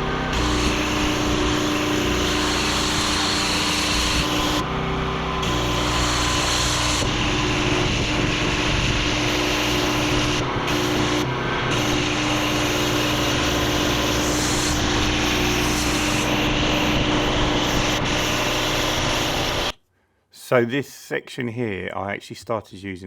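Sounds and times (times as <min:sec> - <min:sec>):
pressure washer humming: 0:00.0 - 0:19.8.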